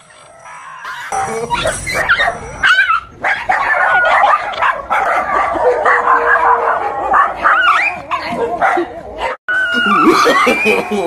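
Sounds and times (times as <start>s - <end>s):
dog barking and yipping: 0.0s - 9.8s.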